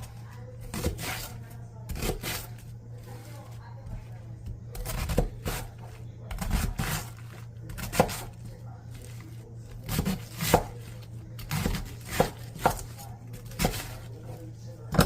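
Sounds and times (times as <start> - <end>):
knife chopping on cutting board: 0.6 - 2.6, 3.8 - 8.4, 9.0 - 15.0.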